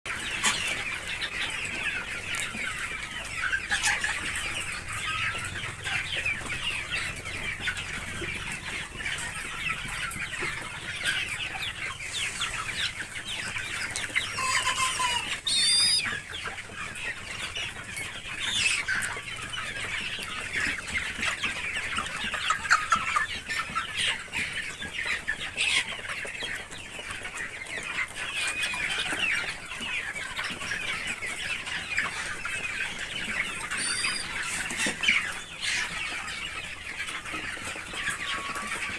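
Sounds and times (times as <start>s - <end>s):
chickens clucking: 0.1s - 38.9s
high squeaky chicken calls: 0.2s - 20.7s, 27.4s - 38.9s.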